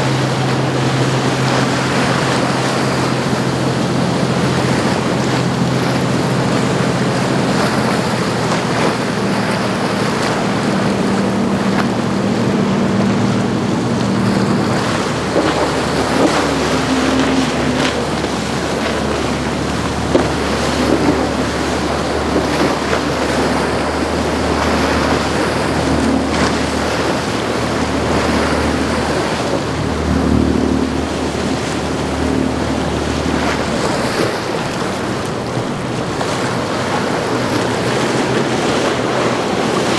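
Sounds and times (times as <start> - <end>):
motor yacht engines droning: 0.0 - 39.9
rush of wake water: 0.0 - 39.9
wind on microphone: 0.0 - 39.9.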